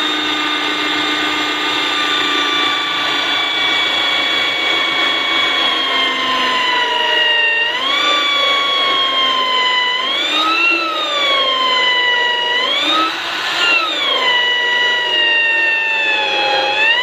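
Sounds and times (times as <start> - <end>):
electric drill motor whine: 0.0 - 17.0.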